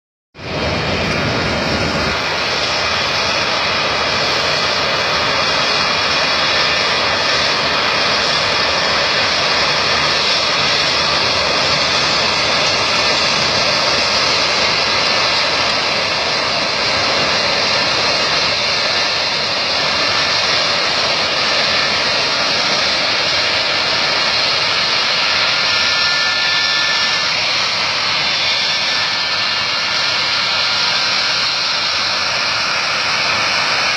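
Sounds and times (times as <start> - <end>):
airplane engines running: 0.4 - 33.9.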